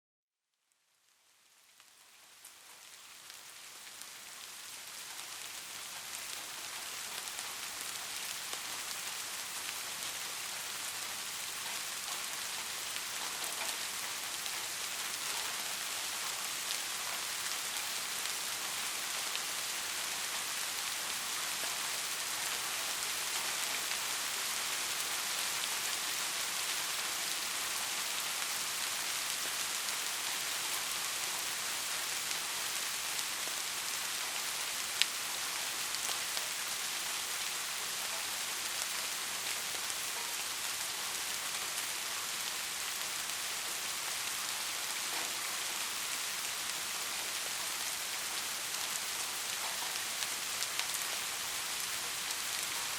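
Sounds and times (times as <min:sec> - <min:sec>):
steady rain falling: 0:00.6 - 0:52.9.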